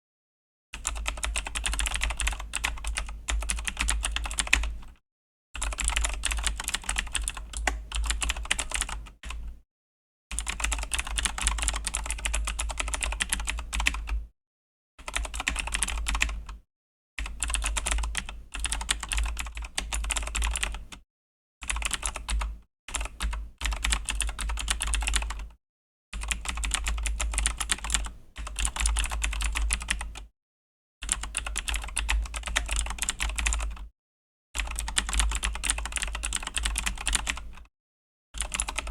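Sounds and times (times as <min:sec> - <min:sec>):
mechanical keyboard typing: 0:00.8 - 0:04.9, 0:05.6 - 0:09.4, 0:10.4 - 0:14.2, 0:15.0 - 0:16.6, 0:17.2 - 0:21.0, 0:21.7 - 0:25.5, 0:26.2 - 0:30.2, 0:31.1 - 0:33.9, 0:34.6 - 0:37.7, 0:38.4 - 0:38.9.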